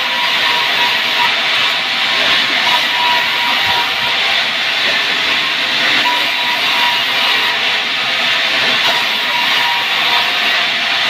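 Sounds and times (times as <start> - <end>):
faint high whine: 0.0 - 11.0
saw hissing through wood: 0.0 - 11.0.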